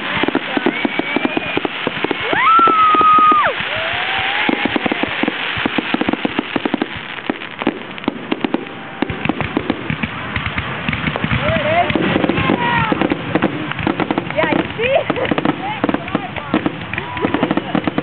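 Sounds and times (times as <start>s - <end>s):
fireworks cracking and popping: 0.0s - 18.0s
whistling firework shells: 0.0s - 18.0s.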